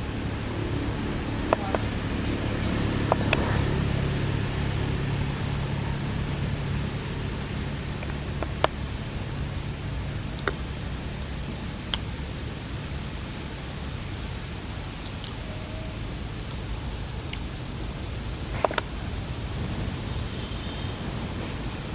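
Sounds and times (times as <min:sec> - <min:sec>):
steady outdoor hiss: 0:00.0 - 0:21.9.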